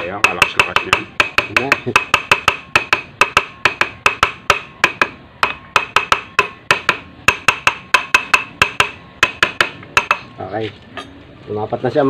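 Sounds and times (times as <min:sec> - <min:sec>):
hammer tapping on metal: 0:00.0 - 0:10.4.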